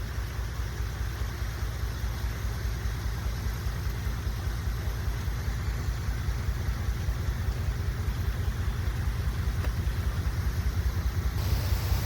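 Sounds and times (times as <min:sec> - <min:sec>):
engine running low revs: 0:00.0 - 0:12.0.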